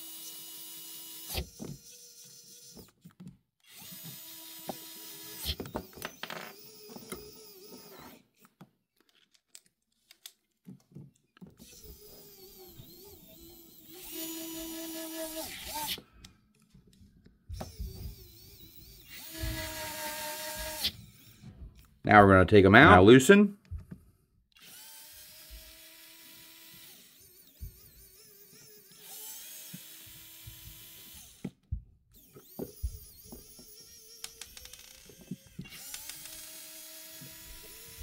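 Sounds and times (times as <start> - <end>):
electric screwdrivers whining: 0.0 - 10.3, 11.4 - 22.0, 23.8 - 38.0.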